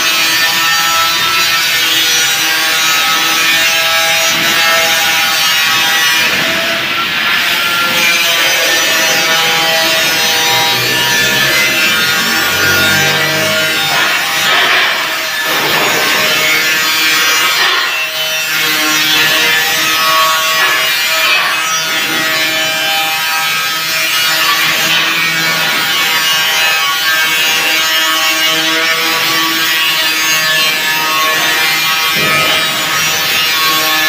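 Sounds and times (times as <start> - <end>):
angle grinder grinding steel: 0.0 - 34.0.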